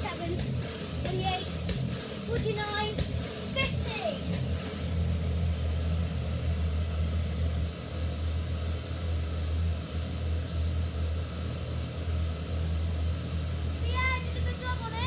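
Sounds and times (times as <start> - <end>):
electric air blower humming: 0.0 - 15.0.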